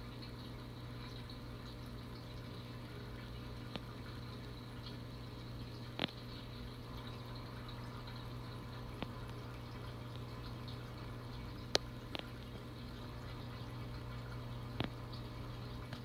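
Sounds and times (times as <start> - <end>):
low pump hum: 0.0 - 16.0
trickling water: 0.0 - 16.0.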